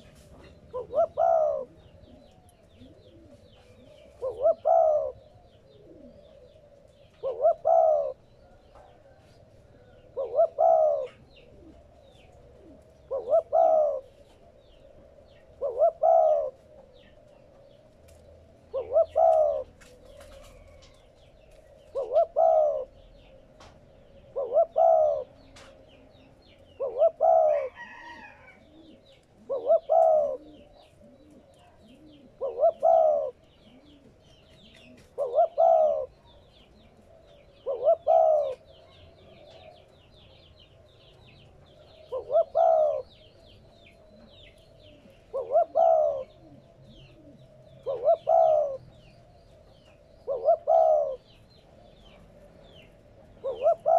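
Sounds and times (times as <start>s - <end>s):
dove cooing: 0.0s - 53.9s
small birds chirping: 0.0s - 53.9s.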